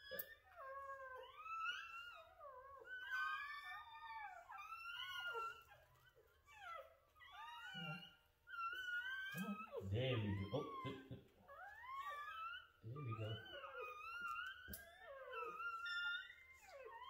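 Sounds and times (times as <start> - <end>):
puppies whining and squealing: 0.0 - 17.0.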